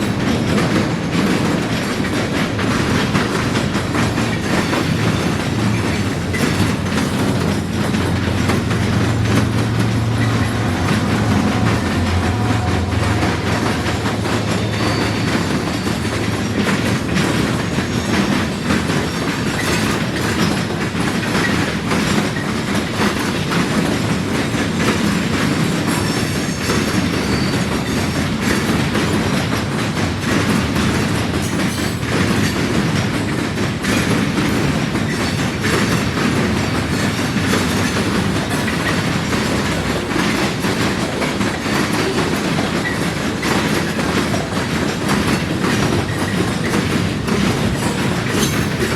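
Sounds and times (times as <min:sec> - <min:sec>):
train wheels clattering over crossing: 0:00.0 - 0:48.9.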